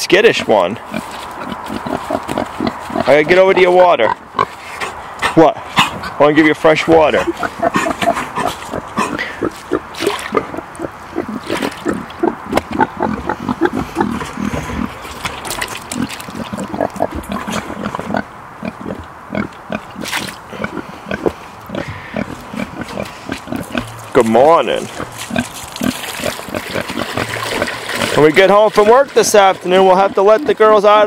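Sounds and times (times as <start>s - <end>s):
young pigs grunting: 0.3s - 6.2s, 6.8s - 31.0s.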